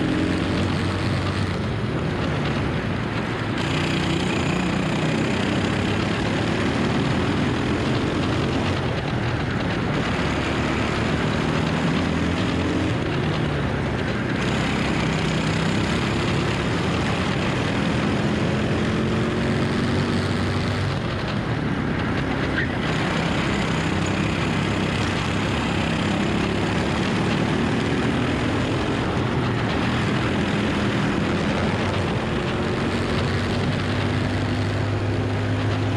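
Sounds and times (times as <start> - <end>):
kart engine racing: 0.0 - 35.9
wind and road noise: 0.0 - 35.9.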